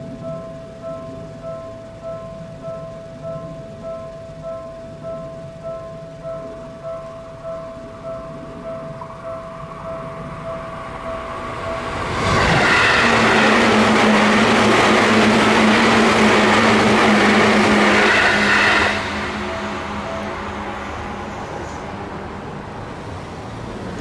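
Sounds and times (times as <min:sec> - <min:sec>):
electric train passing: 0:00.0 - 0:24.0
level crossing bell ringing: 0:00.3 - 0:21.6.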